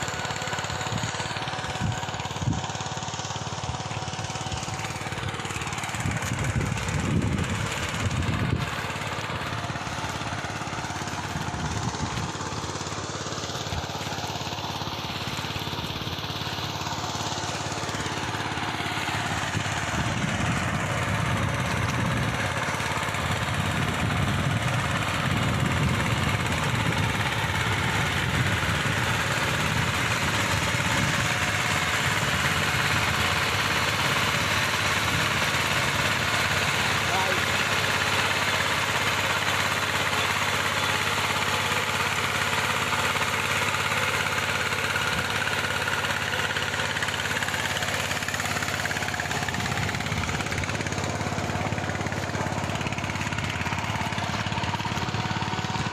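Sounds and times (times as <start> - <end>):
motorised plough engine running: 0.0 - 55.9.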